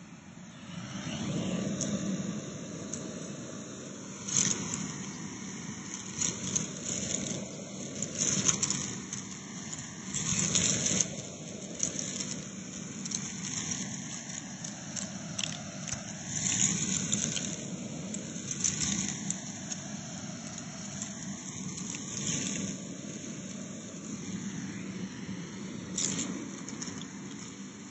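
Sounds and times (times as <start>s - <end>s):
vacuum cleaner suction: 0.6s - 27.9s
grains rattling up a hose: 0.7s - 27.9s.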